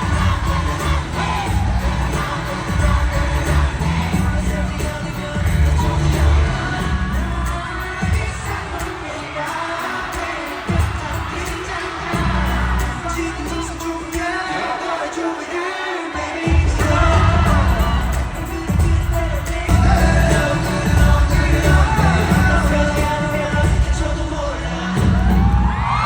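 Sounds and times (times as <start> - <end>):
heavy bass: 0.0 - 9.0, 10.7 - 14.2, 16.5 - 26.0
person singing: 0.0 - 26.0
pop song through sound system: 0.0 - 26.0.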